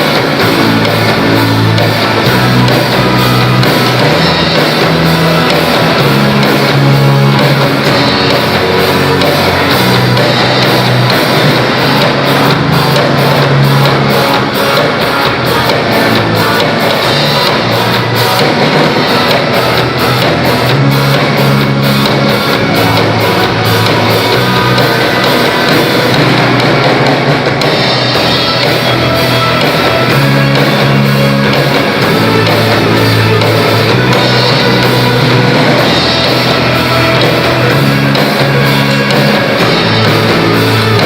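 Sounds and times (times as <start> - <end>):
held bass notes: 0.0 - 41.0
rock band playing: 0.0 - 41.0.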